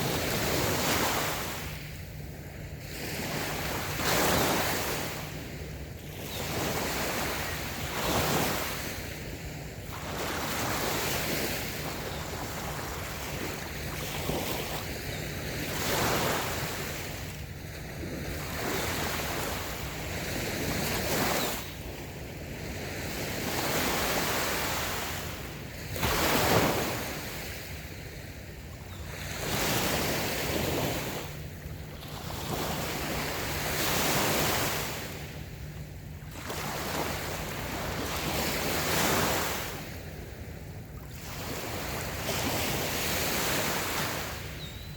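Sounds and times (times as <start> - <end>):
waves washing onto sand: 0.0 - 28.6, 29.2 - 44.6.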